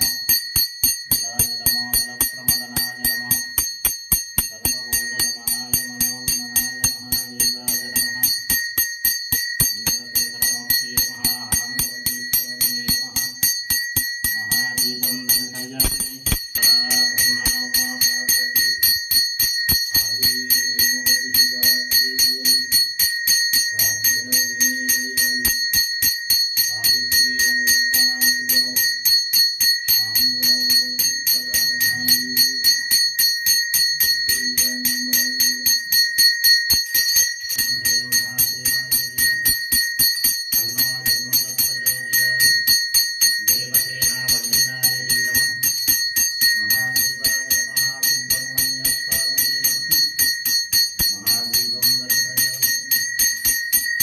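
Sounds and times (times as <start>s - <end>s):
hand bell ringing: 0.0s - 54.0s.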